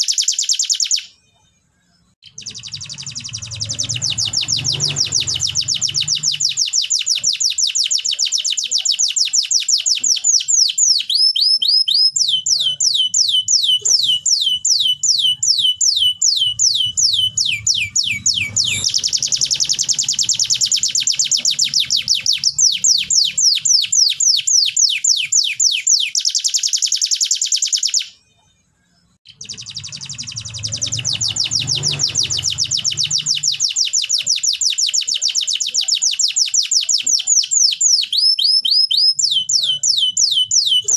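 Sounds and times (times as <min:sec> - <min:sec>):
canary singing in fast trills: 0:00.0 - 0:40.9.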